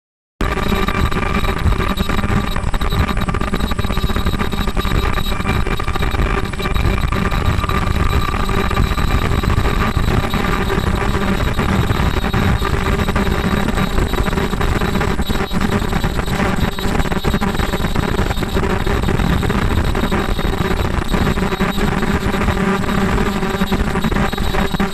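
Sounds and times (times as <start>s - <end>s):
steady high tones: 0.4s - 24.9s.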